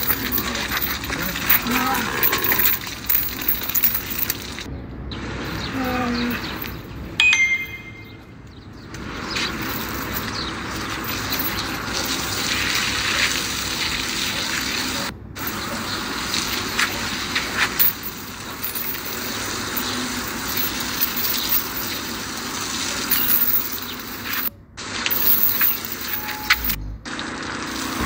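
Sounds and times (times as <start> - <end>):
hose water splashing on tiles: 0.0 - 4.7, 9.0 - 28.0.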